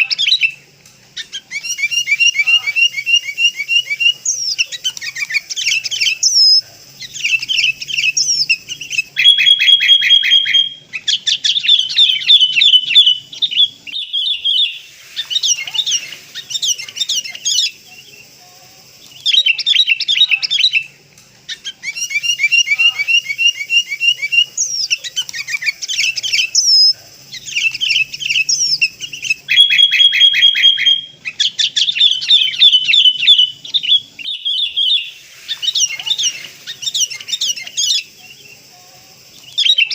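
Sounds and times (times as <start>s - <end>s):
bulbul chattering calls: 0.0s - 39.9s.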